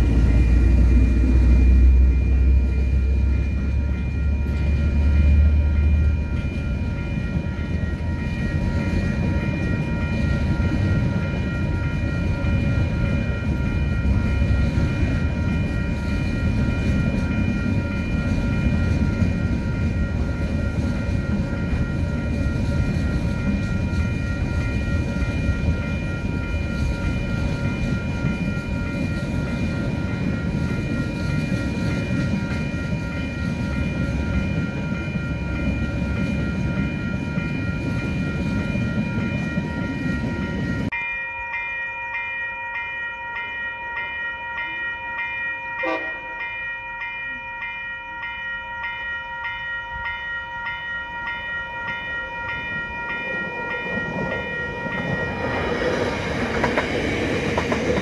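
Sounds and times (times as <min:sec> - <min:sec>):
train wagons rumbling on rails: 0:00.0 - 0:41.0, 0:43.4 - 0:58.0.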